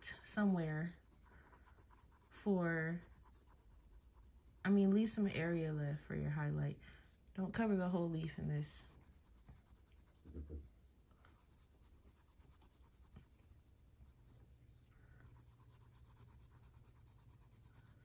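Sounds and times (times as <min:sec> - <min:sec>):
pencil scratching on paper: 0:00.0 - 0:05.8, 0:08.2 - 0:18.0.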